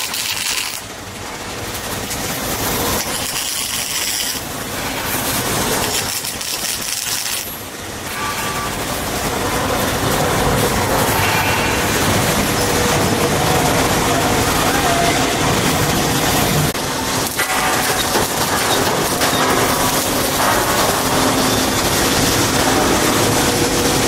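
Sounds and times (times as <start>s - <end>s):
low steady running noise: 0.0s - 24.0s
welding arc crackling: 0.0s - 24.0s.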